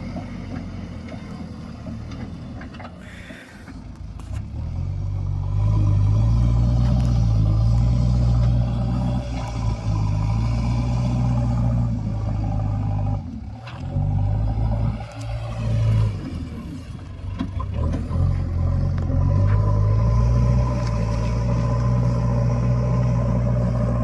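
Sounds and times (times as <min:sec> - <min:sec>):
backhoe diesel engine revving: 0:00.0 - 0:24.0.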